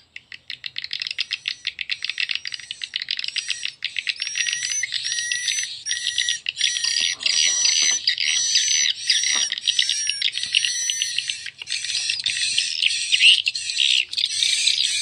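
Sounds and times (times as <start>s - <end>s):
high-pitched bird twittering: 0.2s - 15.0s.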